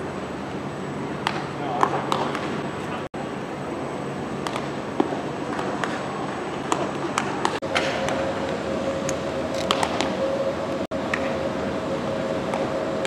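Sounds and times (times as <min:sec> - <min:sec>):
steady background noise: 0:00.0 - 0:13.0
steady low hum: 0:00.0 - 0:13.0.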